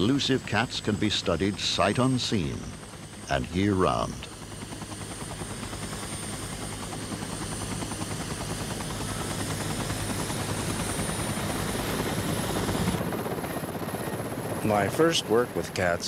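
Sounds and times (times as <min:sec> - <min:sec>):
helicopter rotor blades chopping: 0:00.0 - 0:16.0
turbine hum with high whine: 0:00.0 - 0:16.0.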